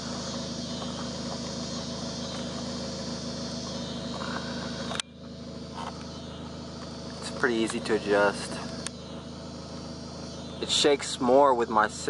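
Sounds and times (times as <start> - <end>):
car engine idling: 0.0 - 12.0
outdoor background hiss: 0.0 - 12.0.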